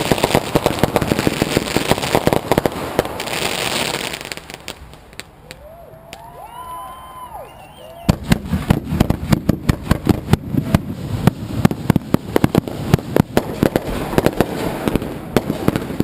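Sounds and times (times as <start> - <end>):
fireworks banging and crackling: 0.0 - 16.0
whistling fireworks: 0.0 - 16.0.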